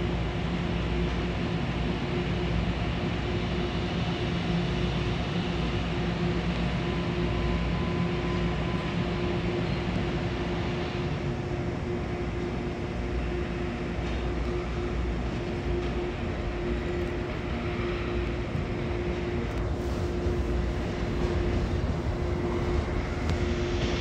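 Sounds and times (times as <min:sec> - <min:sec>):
constant hum: 0:00.0 - 0:24.0
electric train rumbling: 0:00.0 - 0:24.0.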